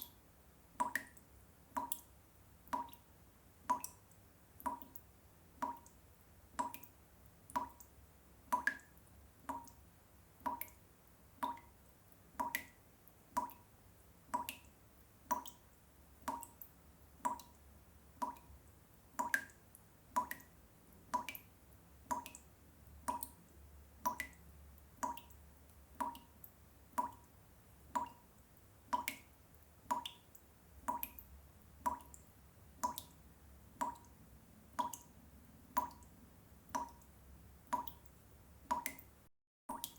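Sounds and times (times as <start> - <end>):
water dripping: 0.0 - 39.9.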